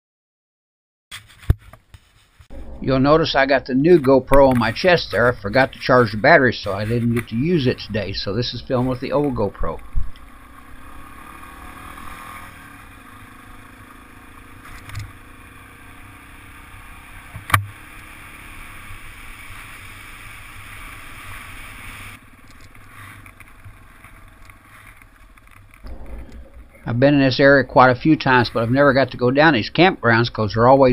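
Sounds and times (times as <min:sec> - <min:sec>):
wind and road noise: 0:01.5 - 0:30.9
motorcycle engine running: 0:04.3 - 0:29.4.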